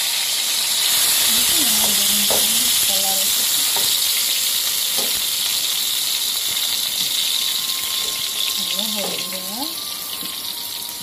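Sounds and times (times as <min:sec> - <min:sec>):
eggplant sizzling in oil: 0:00.0 - 0:11.0.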